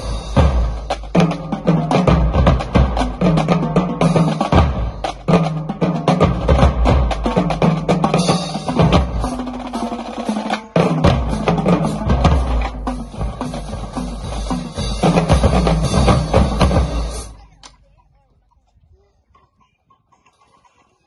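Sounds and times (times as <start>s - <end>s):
cymbals: 0.0s - 17.4s
snare drums rattling: 0.0s - 17.4s
tenor and bass drums: 0.0s - 17.4s.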